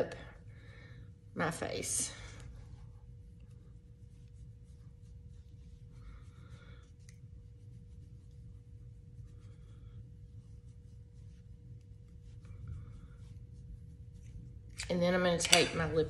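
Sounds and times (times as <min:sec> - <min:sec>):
faint steady hum: 0:00.0 - 0:16.0
makeup brush swishing on skin: 0:01.4 - 0:16.0.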